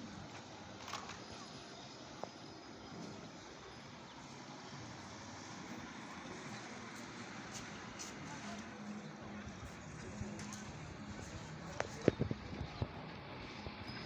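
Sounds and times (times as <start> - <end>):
faint traffic noise: 0.0 - 14.0.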